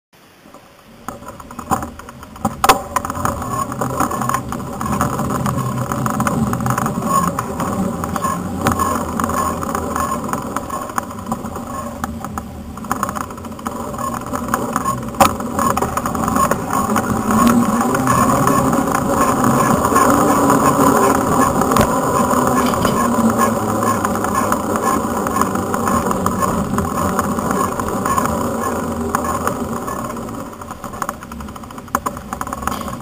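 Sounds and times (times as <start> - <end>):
bike rolling on pavement: 0.2 - 33.0.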